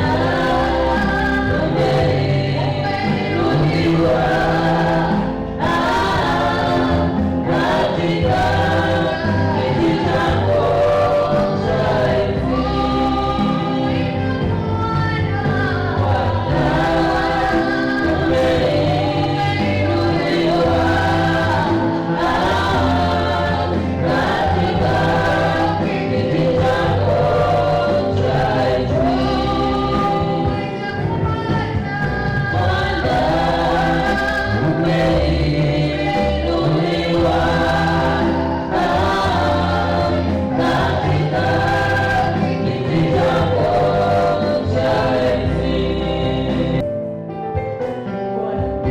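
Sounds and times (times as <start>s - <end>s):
gospel choir singing: 0.0s - 47.1s, 48.2s - 48.9s
instrumental backing with bass: 0.0s - 48.9s.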